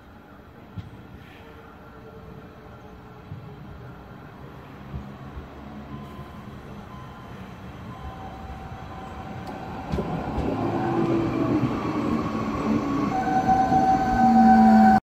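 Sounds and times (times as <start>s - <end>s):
multi-tone train whine: 0.0s - 15.0s
electric train approaching: 1.9s - 15.0s.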